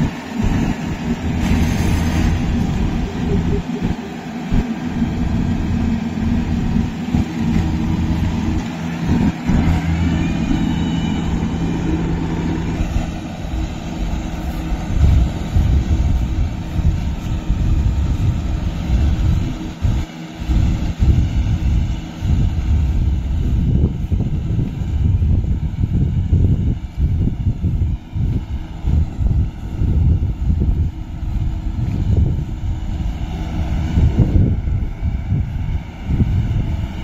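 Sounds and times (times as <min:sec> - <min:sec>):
combine harvester engine drone: 0:00.0 - 0:37.0.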